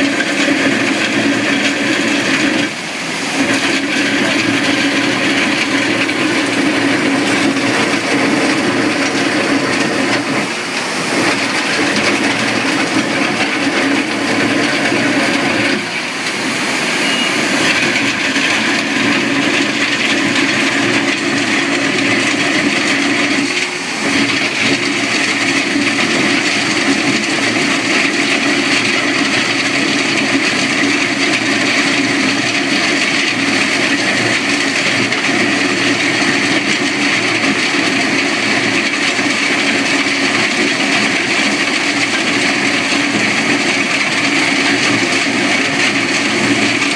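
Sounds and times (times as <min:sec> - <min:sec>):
track loader milling trench: 0:00.0 - 0:46.9.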